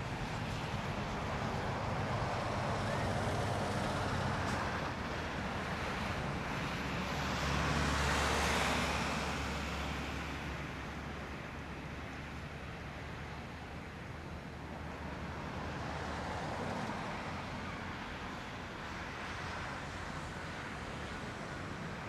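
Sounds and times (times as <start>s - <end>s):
jet engines at takeoff power: 0.0s - 22.0s.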